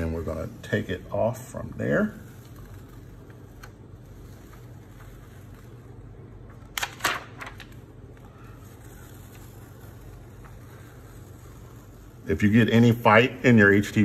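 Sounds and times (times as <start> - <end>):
plastic sheet crackling: 0.0 - 14.0
steady low hum: 0.0 - 14.0.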